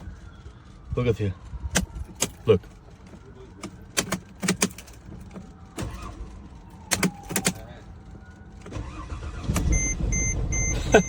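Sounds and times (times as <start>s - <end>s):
diesel engine cranking and starting: 1.6s - 11.0s.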